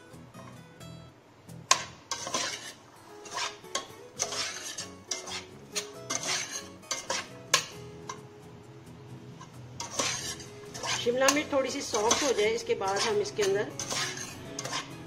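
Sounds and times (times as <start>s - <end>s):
soft background music: 0.0s - 15.0s
metal spoon scraping metal pot: 1.7s - 8.2s, 9.4s - 15.0s.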